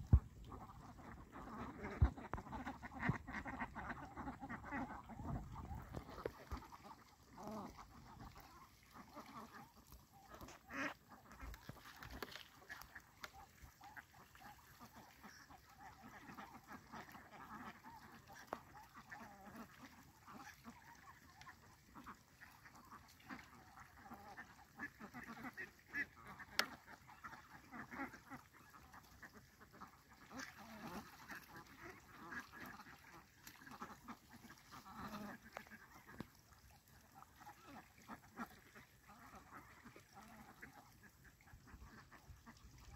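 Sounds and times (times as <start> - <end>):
ducks quacking: 0.0 - 42.9.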